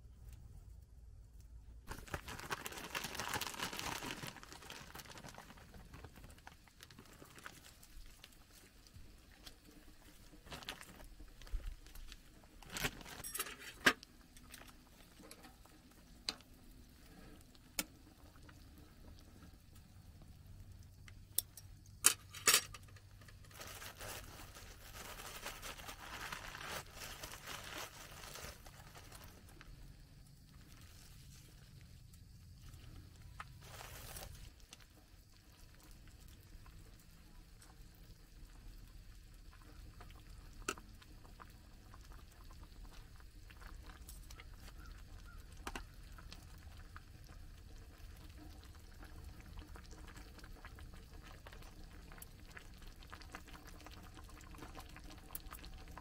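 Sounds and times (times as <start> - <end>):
broth simmering and bubbling: 0.1 - 13.4, 14.0 - 22.0, 22.9 - 56.0.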